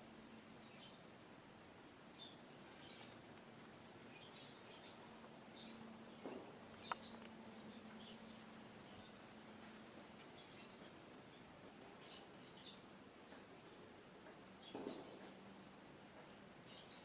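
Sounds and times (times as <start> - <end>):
faint steady hum: 0.0 - 17.0
small birds chirping: 0.0 - 17.0.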